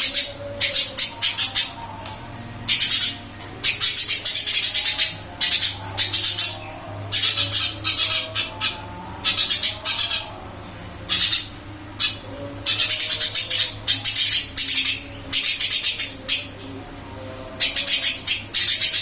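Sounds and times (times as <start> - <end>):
sparrow chirping: 0.0 - 10.4, 11.1 - 16.8, 17.6 - 19.0.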